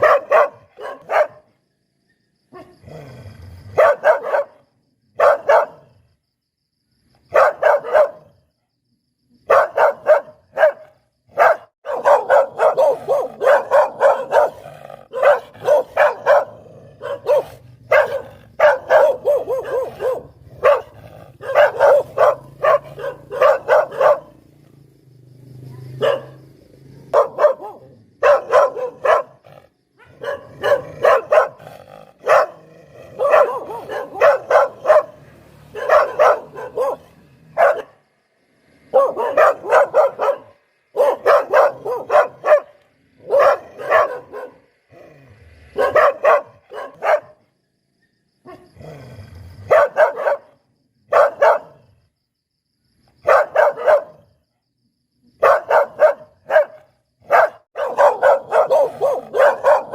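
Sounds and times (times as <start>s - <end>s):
dog barking: 0.0s - 1.6s, 2.5s - 2.8s, 3.6s - 6.0s, 7.3s - 8.5s, 9.4s - 24.5s, 25.6s - 38.0s, 38.8s - 44.7s, 45.7s - 47.5s, 48.4s - 48.9s, 49.6s - 52.1s, 53.2s - 54.4s, 55.4s - 59.9s.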